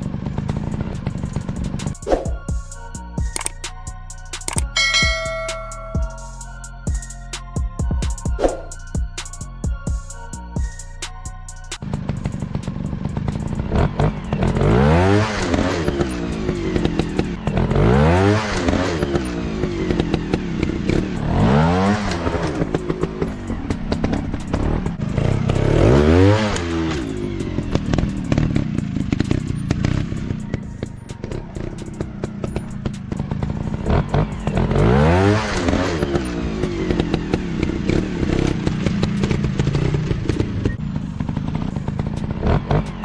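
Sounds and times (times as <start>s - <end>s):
motorcycle engine revving: 0.0s - 3.6s, 11.6s - 43.0s.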